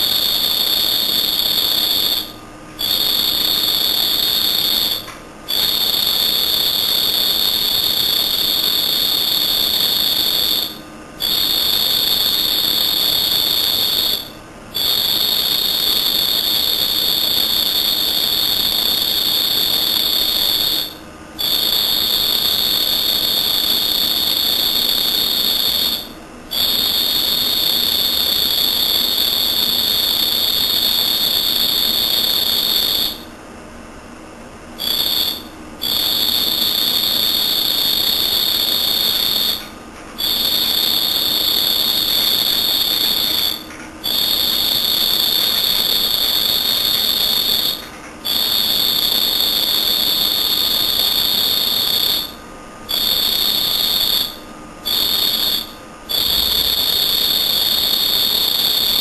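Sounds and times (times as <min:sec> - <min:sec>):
cricket trilling: 0:00.0 - 0:33.3, 0:34.7 - 0:59.0.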